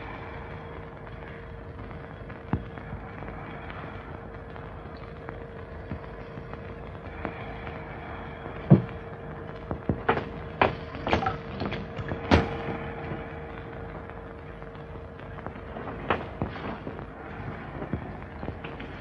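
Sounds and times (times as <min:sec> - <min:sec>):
crackles and pops: 0:00.0 - 0:19.0
film soundtrack hiss: 0:00.0 - 0:19.0
thin constant hum: 0:00.0 - 0:19.0.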